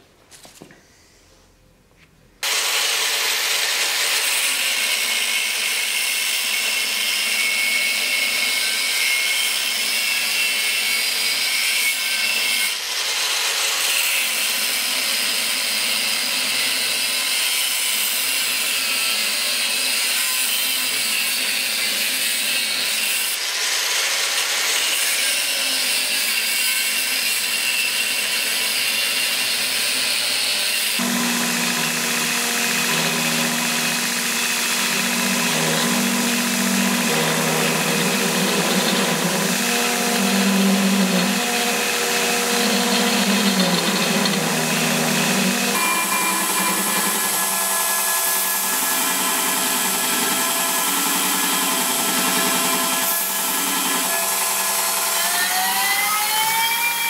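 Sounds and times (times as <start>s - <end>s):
power tool grinding metal: 2.4s - 57.0s.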